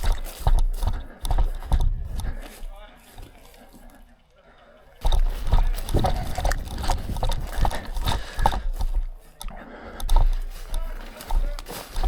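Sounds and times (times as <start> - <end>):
footsteps and knocks: 0.0 - 4.1, 5.0 - 12.0.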